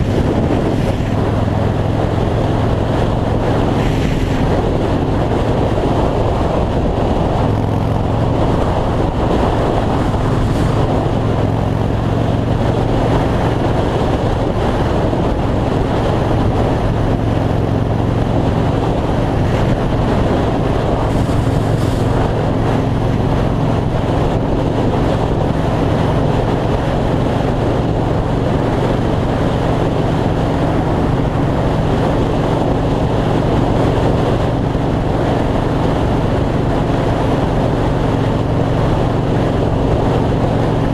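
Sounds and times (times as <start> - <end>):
motorcycle engine cruising: 0.0 - 40.9
wind rush on microphone: 0.0 - 40.9.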